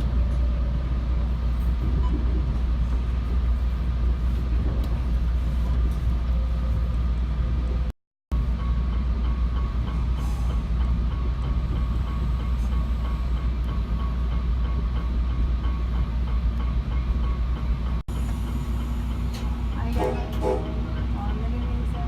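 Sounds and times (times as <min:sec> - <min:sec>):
train rumble from inside car: 0:00.0 - 0:22.0.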